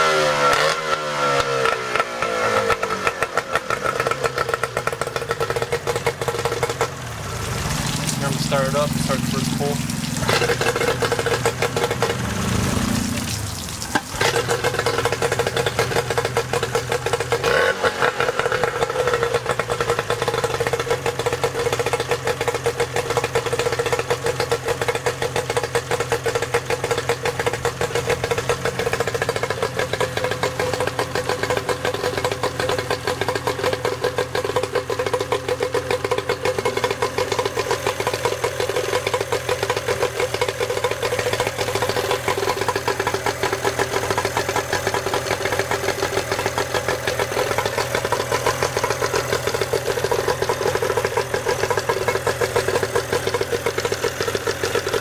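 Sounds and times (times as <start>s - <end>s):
outboard motor idling: 0.0s - 55.0s.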